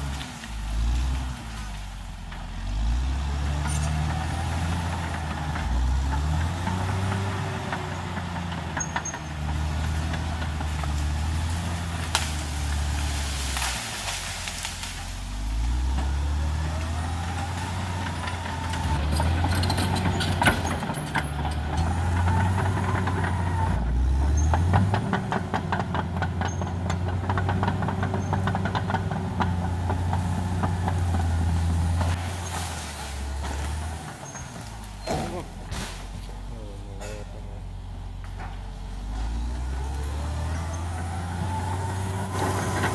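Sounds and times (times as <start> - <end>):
bulldozer diesel engine under load: 0.0 - 42.9.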